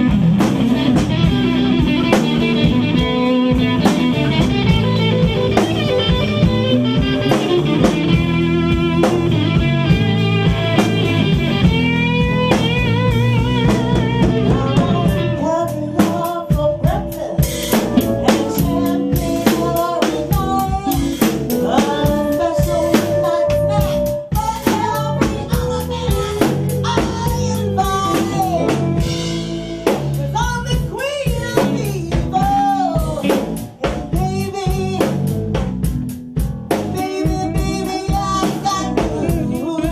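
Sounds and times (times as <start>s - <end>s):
drum kit: 0.0s - 39.9s
electric guitar lead with bent notes: 0.0s - 39.9s.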